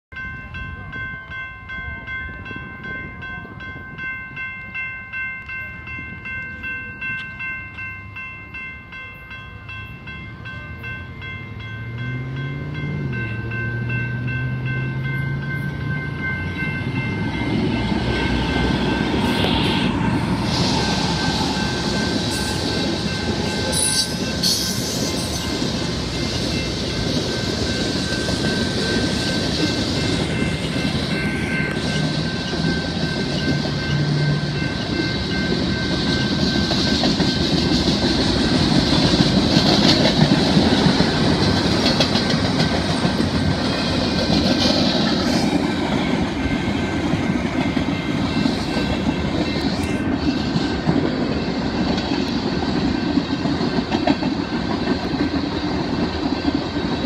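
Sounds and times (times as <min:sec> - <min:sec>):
diesel locomotive engines: 0:00.1 - 0:57.0
railroad crossing bell ringing: 0:00.1 - 0:57.0
train wheels on rails: 0:00.2 - 0:57.0.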